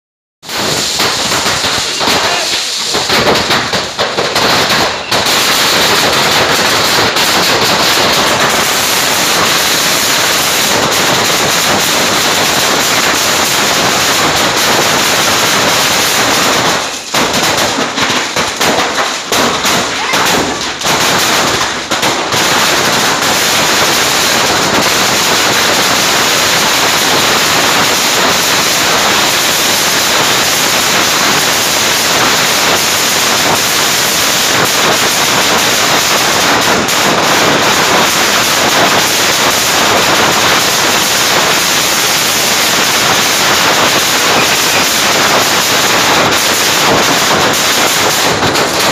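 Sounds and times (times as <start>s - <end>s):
fire crackling and popping: 0.4s - 48.9s.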